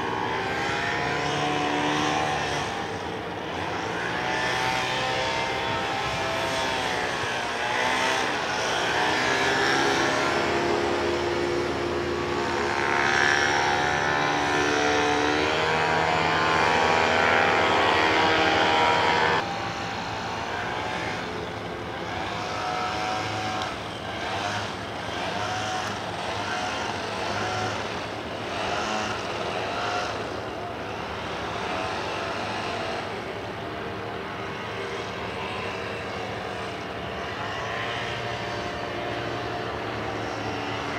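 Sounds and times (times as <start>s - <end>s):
paramotor engine droning: 0.0s - 40.9s.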